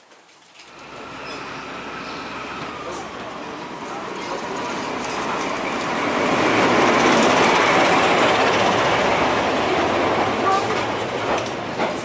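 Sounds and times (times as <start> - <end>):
train passing close by: 0.7 - 12.0.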